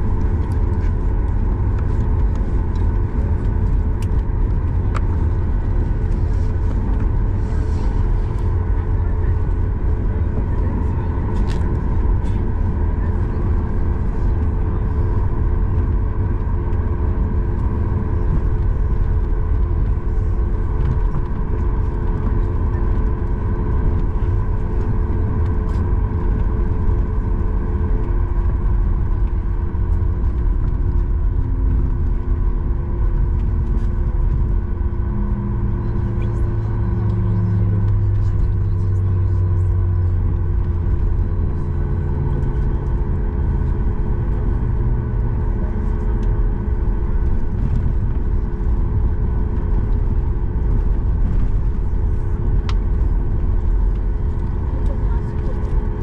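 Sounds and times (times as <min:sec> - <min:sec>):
aircraft cabin rumble: 0:00.0 - 0:56.0
jet engine hum: 0:00.0 - 0:56.0.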